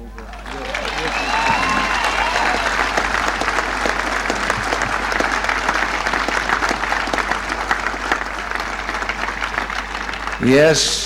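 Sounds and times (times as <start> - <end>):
crowd applauding: 0.0 - 11.0
crowd cheering: 0.0 - 11.0.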